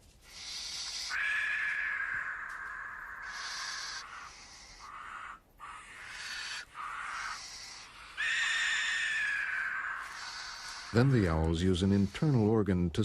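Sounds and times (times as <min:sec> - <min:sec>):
barn owl chicks hissing: 0:00.2 - 0:12.5.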